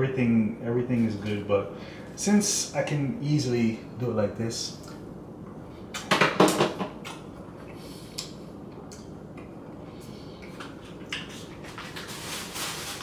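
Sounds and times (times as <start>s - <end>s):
quiet room hum: 0.0s - 13.0s.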